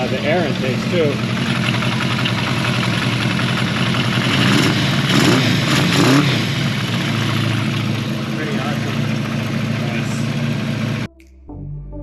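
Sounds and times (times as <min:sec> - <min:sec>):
engine intake noise: 0:00.0 - 0:11.1
motorcycle engine revving and idling: 0:00.0 - 0:11.1.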